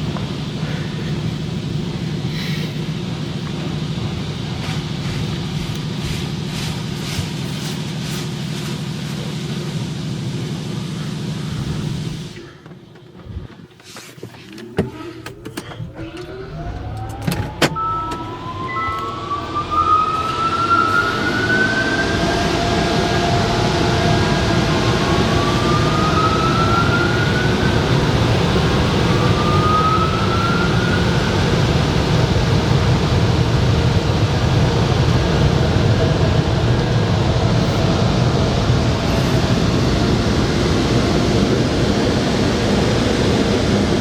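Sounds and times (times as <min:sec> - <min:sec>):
car wash blowers whining: 0:00.0 - 0:44.0.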